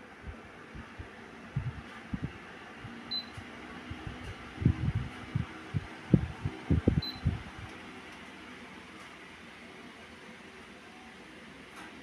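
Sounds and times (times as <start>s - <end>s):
fan rushing air: 0.0s - 12.0s.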